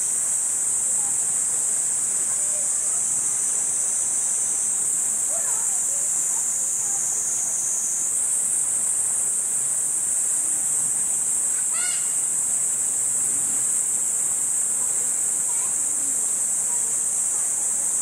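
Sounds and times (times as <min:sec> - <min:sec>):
insect chorus buzzing: 0:00.0 - 0:18.0.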